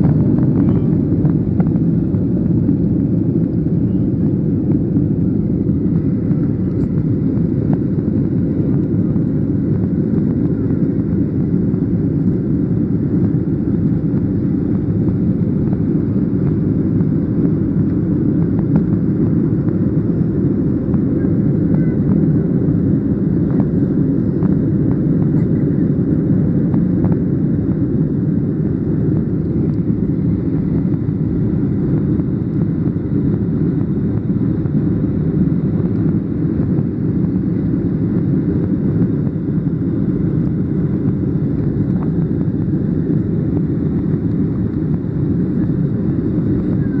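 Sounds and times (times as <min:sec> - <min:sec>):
jet engines roaring at takeoff: 0:00.0 - 0:47.0.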